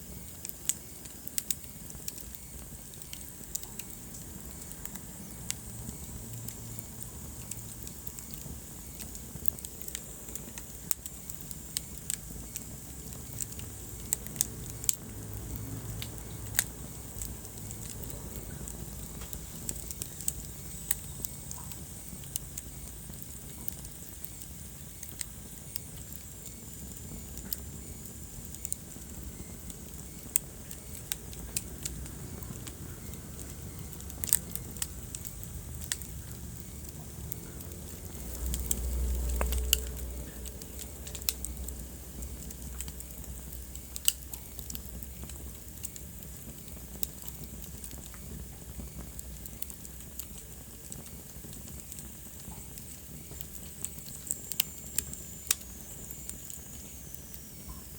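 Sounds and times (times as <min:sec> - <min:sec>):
low rumble of burning: 0:00.0 - 0:57.9
wood fire popping and snapping: 0:00.0 - 0:57.9.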